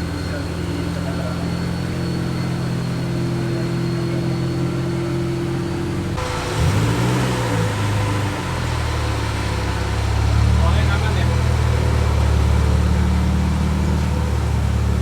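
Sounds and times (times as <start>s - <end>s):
car engines running: 0.0s - 15.0s
engine revving: 0.0s - 15.0s.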